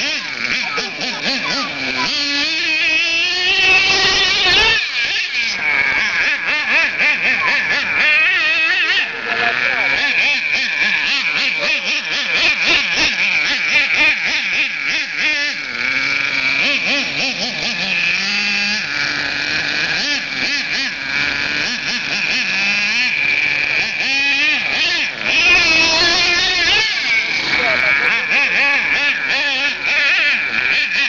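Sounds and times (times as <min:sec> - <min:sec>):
high-pitched nitro engine revving: 0:00.0 - 0:31.0
lower engine note: 0:00.0 - 0:31.0.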